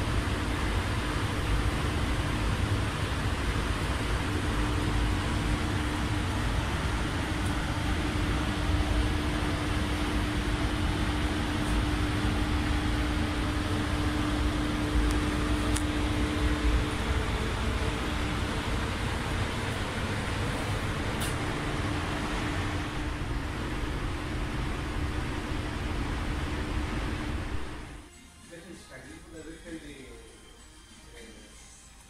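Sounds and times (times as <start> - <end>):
ventilation air rushing: 0.0 - 30.2
ventilation hum: 0.0 - 32.0.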